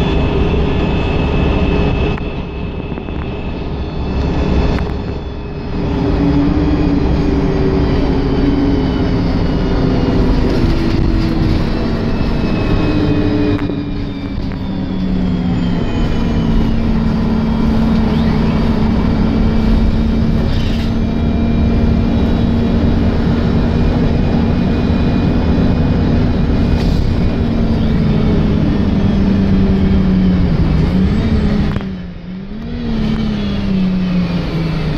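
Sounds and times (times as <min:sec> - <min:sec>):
bus engine under load: 0:00.0 - 0:34.9
driveline whine: 0:00.0 - 0:34.9.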